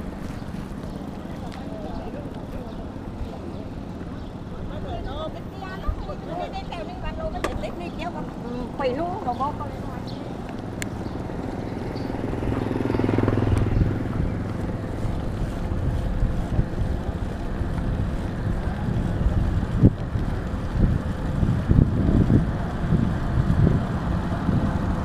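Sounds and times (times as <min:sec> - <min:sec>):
motor engine running: 0:00.0 - 0:25.0
wind rushing over microphone: 0:02.8 - 0:25.0.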